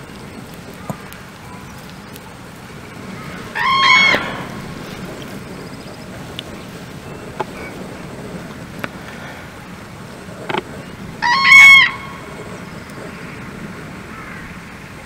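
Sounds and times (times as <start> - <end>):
crane trumpeting call: 0.0 - 15.0.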